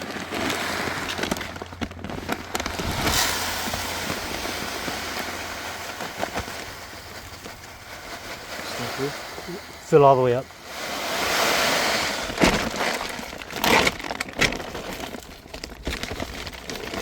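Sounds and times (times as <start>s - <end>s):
grains pouring into plastic bucket: 0.0s - 17.0s.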